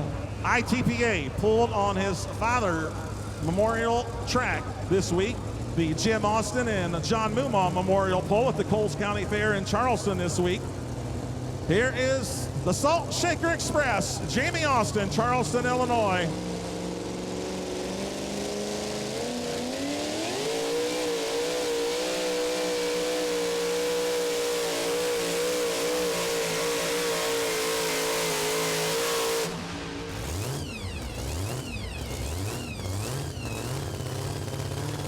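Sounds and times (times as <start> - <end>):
engine throttle blips: 0.0 - 35.0
truck engine at full throttle: 0.0 - 35.0.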